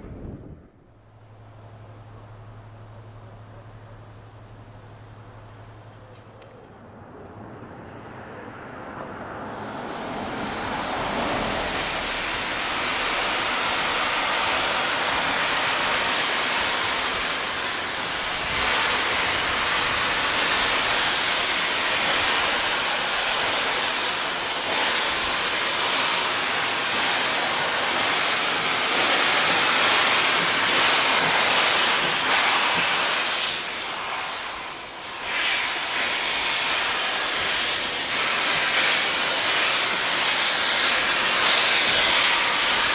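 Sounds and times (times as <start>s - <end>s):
steam train rushing past: 0.9s - 42.9s.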